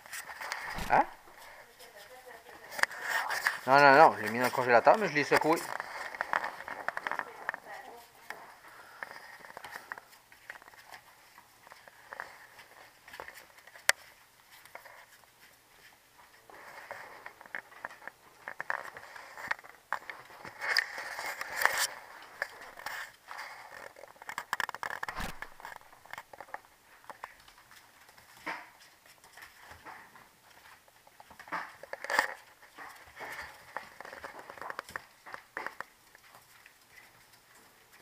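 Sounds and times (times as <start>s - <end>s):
puppies scuffling on a floor: 0.0s - 38.0s.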